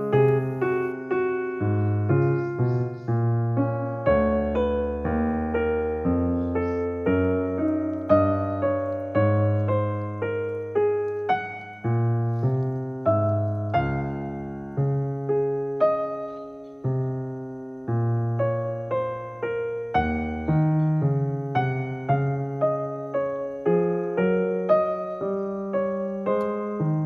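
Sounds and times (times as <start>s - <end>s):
electric piano tune: 0.0s - 27.0s.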